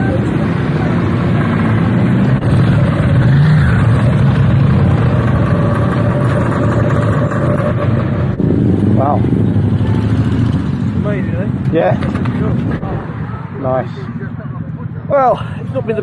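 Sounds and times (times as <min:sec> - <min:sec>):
motorcycle engines running slowly: 0:00.0 - 0:16.0.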